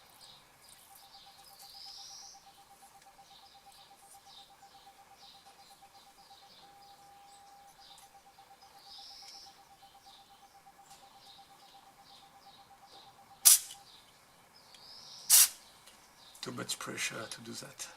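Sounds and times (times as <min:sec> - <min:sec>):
faint birds chirping: 0:00.0 - 0:17.9
faint steady tone: 0:00.0 - 0:17.9.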